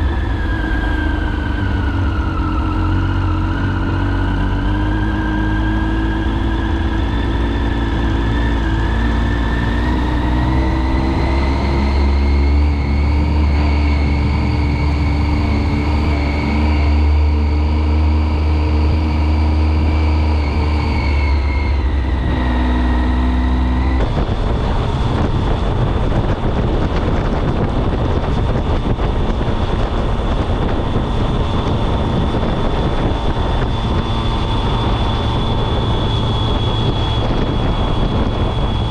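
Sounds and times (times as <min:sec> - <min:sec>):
motorcycle engine on road: 0:00.0 - 0:38.9
rushing noise with high whine: 0:00.0 - 0:38.9.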